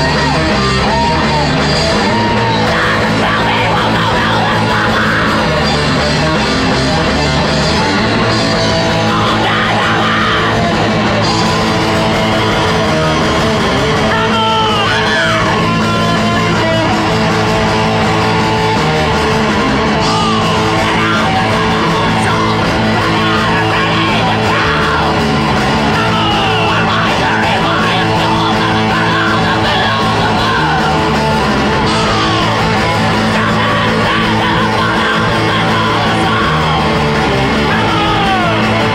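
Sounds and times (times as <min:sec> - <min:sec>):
distorted electric guitars: 0:00.0 - 0:38.9
drum kit: 0:00.0 - 0:38.9.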